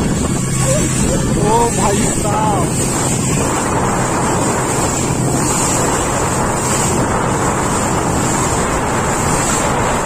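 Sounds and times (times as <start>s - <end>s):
boat motor running: 0.0s - 10.0s
water against boat hull: 0.0s - 10.0s
wind buffeting microphone: 0.0s - 10.0s.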